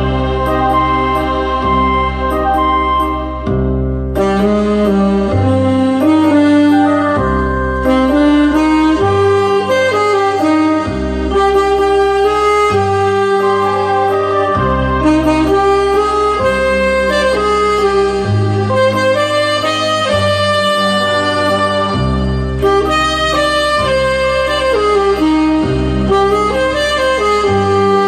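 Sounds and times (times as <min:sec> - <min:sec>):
alto saxophone slow melody: 0:00.0 - 0:28.0
recorded accompaniment with bass: 0:00.0 - 0:28.0.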